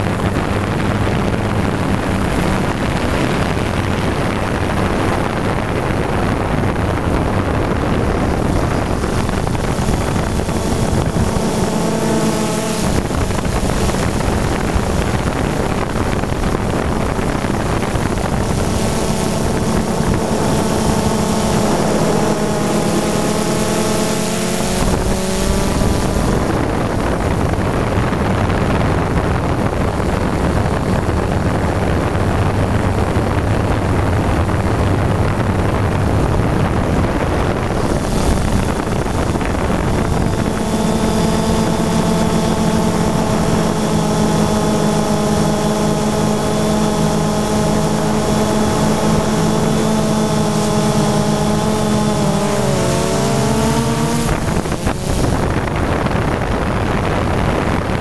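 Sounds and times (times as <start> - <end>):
drone propellers whirring: 0.0 - 58.0
wind buffeting microphone: 0.0 - 58.0.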